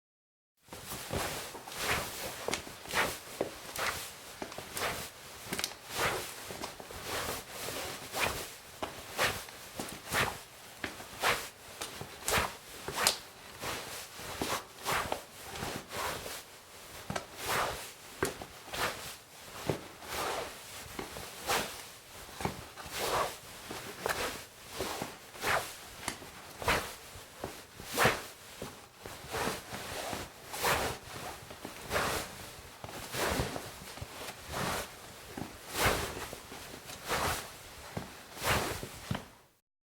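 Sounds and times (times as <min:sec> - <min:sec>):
trouser fabric swishing: 0:00.7 - 0:05.2, 0:05.9 - 0:39.2.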